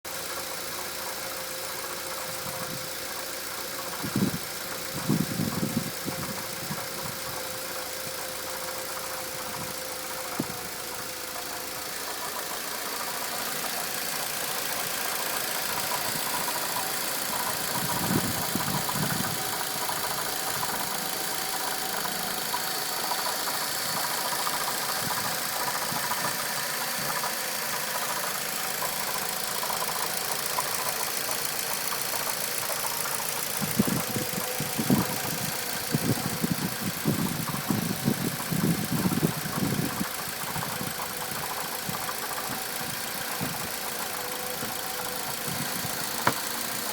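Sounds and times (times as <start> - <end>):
car engine running: 0.0 - 46.9
dull low engine knocks: 0.1 - 46.9.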